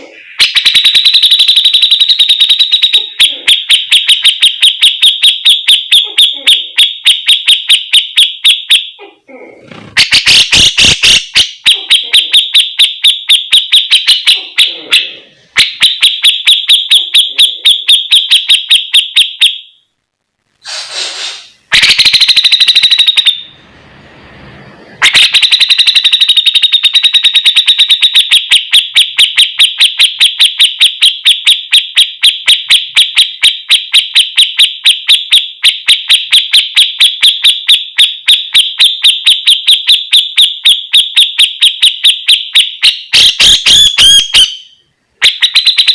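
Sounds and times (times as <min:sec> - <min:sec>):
bird chirping rapidly: 0:00.1 - 0:09.0, 0:10.0 - 0:19.8, 0:25.0 - 0:45.9.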